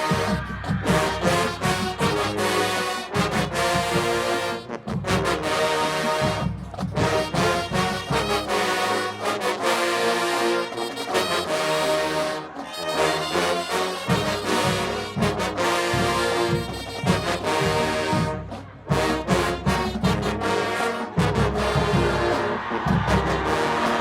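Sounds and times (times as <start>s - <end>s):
brass section chords: 0.0s - 24.0s
marching drumline: 0.0s - 24.0s.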